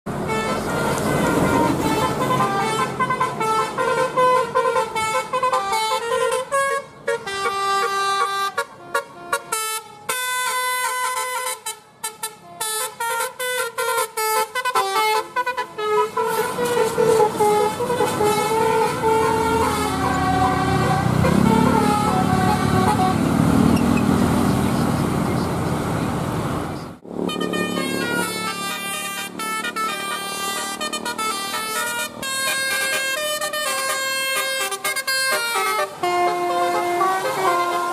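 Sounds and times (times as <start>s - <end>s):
tuned air horns playing a melody: 0.2s - 24.0s, 27.0s - 37.9s.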